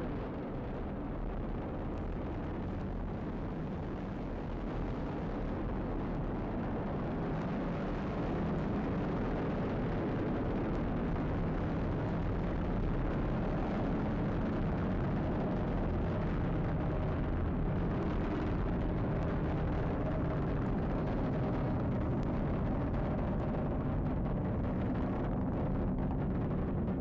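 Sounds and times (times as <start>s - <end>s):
rocket engines rumbling: 0.0s - 27.0s.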